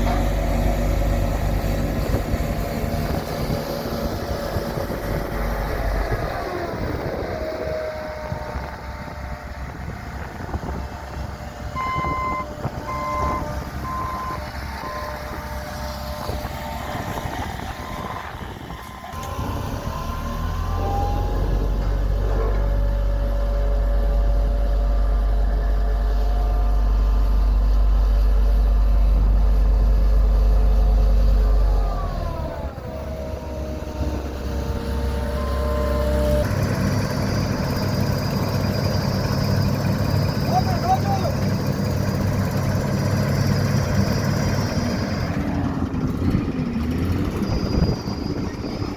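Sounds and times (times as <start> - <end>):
diesel machinery rumbling: 0.0 - 48.9.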